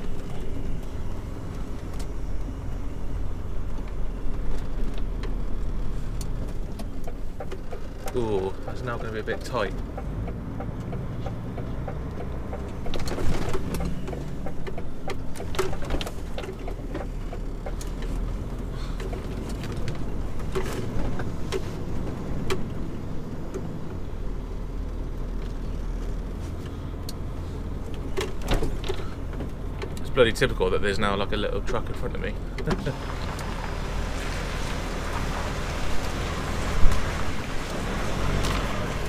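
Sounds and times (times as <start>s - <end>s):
diesel lorry engine rumble: 0.0s - 39.0s.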